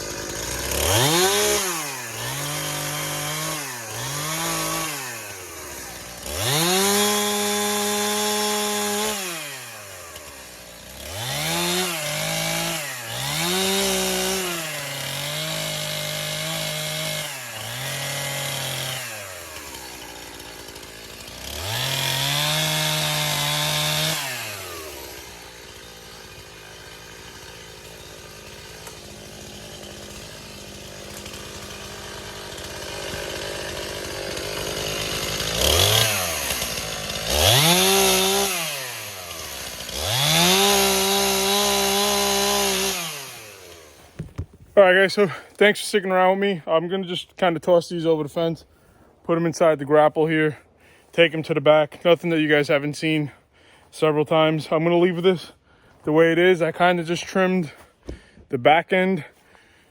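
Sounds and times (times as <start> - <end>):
chainsaw cutting branches: 0.0 - 46.4, 48.3 - 59.9.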